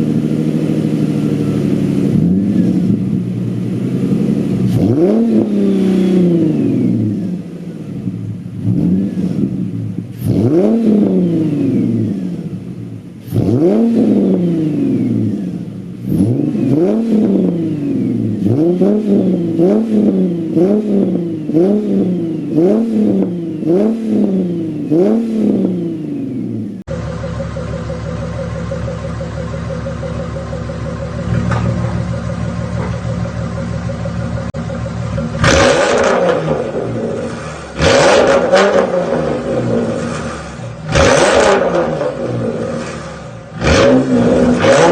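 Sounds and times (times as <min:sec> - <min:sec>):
car engine idling: 0:00.0 - 0:44.9
car engine revving: 0:00.0 - 0:44.9.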